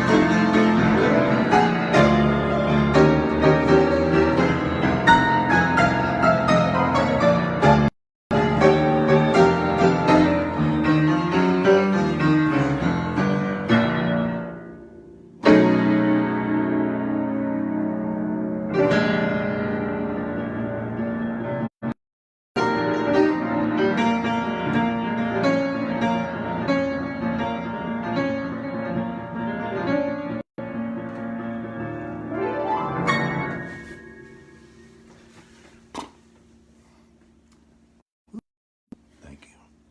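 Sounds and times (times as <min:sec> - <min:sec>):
solo piano: 0:00.0 - 0:22.0, 0:22.6 - 0:35.6.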